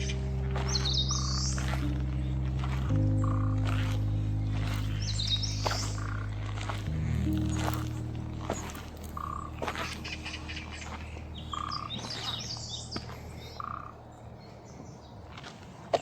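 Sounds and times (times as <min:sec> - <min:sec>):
footstep clicks: 0:00.0 - 0:14.1
low music: 0:00.0 - 0:14.4
bird chirps: 0:00.0 - 0:15.2.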